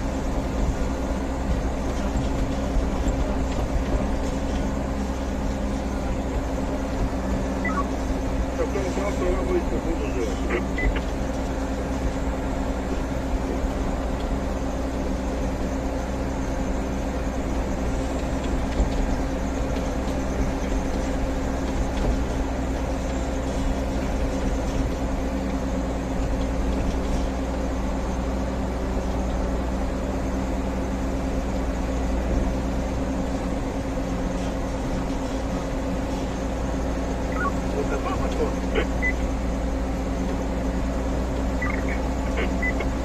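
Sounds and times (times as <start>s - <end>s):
heavy machinery engine droning: 0.0s - 43.0s.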